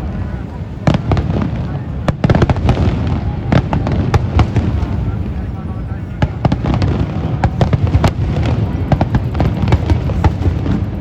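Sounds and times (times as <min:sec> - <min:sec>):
fireworks pops and crackles: 0:00.0 - 0:11.0.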